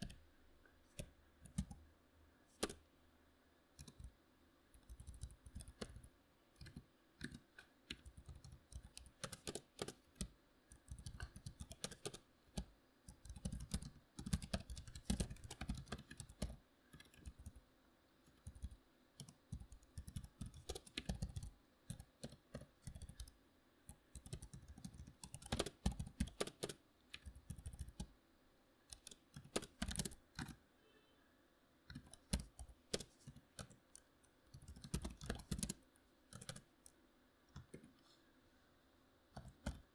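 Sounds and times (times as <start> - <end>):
keyboard typing: 0.9 - 1.8, 2.5 - 2.9, 3.8 - 17.6, 18.3 - 28.1, 28.9 - 30.6, 31.9 - 38.0, 39.4 - 39.9.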